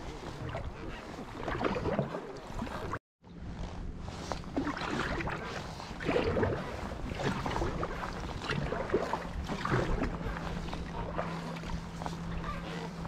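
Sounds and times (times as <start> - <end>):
paddle strokes splashing water: 0.0 - 3.0, 4.0 - 13.0.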